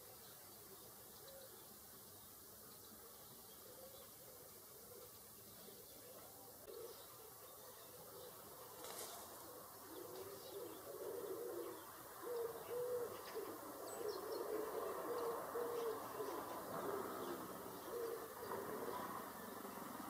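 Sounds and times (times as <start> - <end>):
dove cooing: 3.0 - 20.0.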